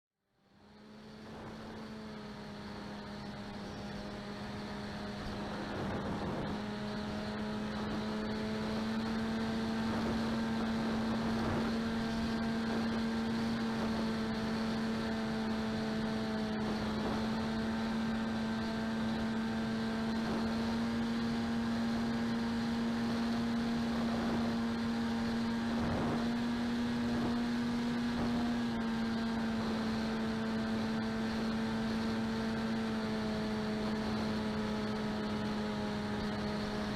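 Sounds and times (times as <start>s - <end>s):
electric motor droning hum: 0.4s - 36.9s.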